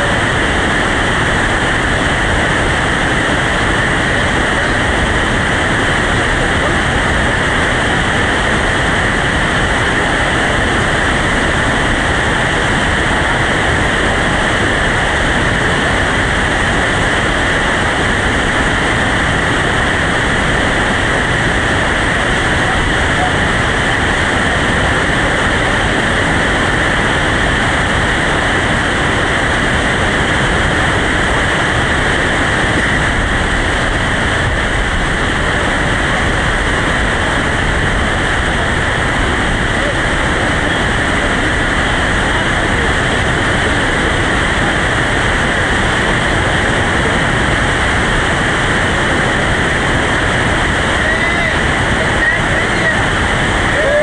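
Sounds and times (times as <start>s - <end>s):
whitewater rapids rushing: 0.0s - 54.0s.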